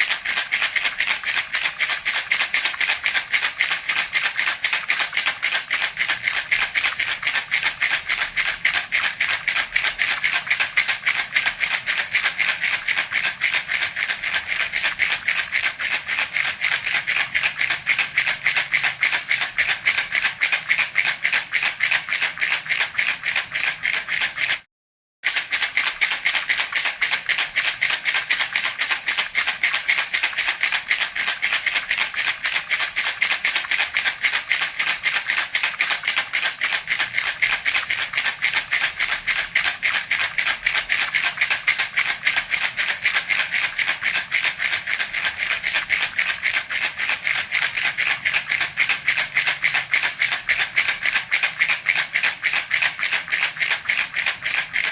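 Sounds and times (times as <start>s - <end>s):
baby rattle shaken rapidly: 0.0s - 24.6s, 25.3s - 54.9s.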